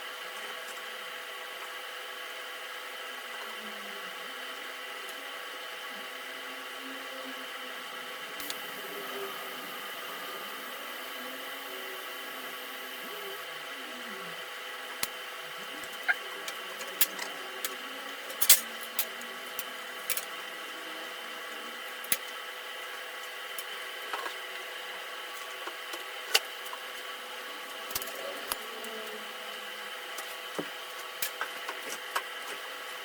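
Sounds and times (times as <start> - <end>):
steady hum with held tones: 0.0 - 33.0.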